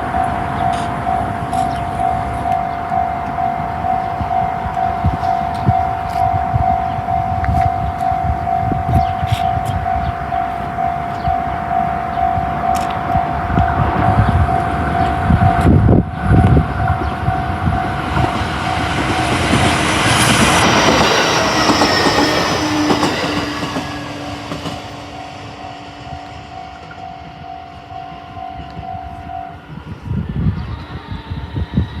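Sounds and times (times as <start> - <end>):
faint crossing warning alarm: 0.0 - 32.0
train wheels rumbling on rails: 0.0 - 32.0.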